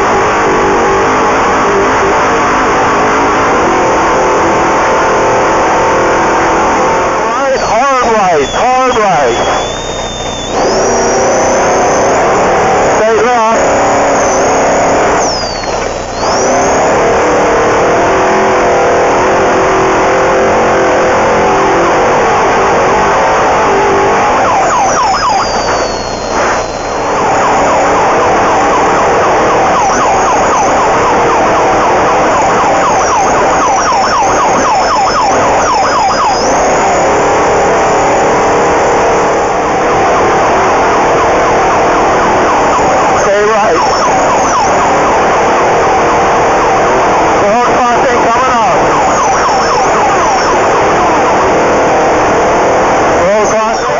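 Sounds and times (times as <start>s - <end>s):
engine whining at speed: 0.0s - 53.9s.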